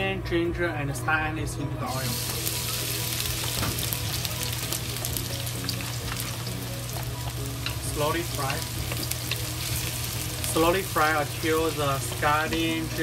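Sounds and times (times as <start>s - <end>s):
food sizzling in hot oil: 1.9s - 13.0s.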